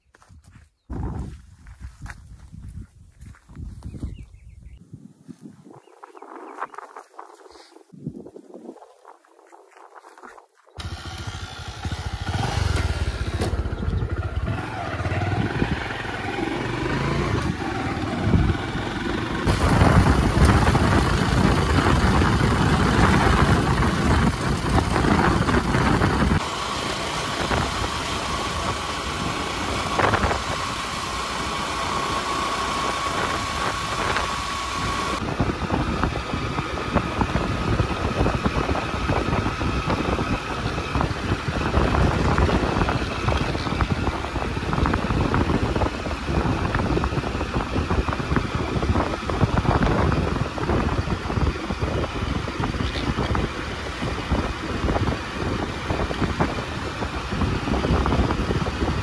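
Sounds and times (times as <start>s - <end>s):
road and wind noise: 0.0s - 59.0s
motorcycle engine running: 10.8s - 59.0s
steady whine: 10.8s - 59.0s.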